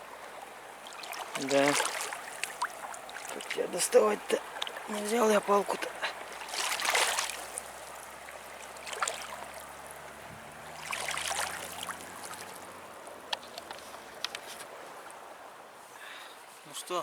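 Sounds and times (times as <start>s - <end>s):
water splashing and sloshing: 0.0s - 15.9s.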